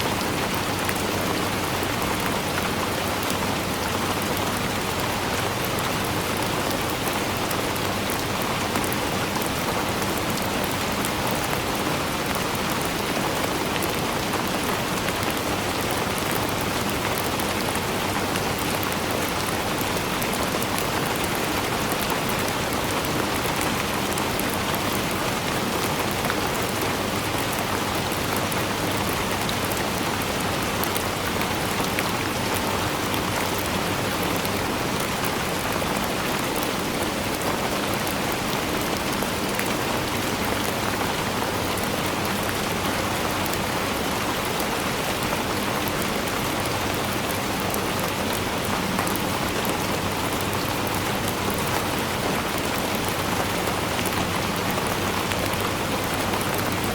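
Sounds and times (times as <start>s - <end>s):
steady rain on a surface: 0.0s - 56.9s.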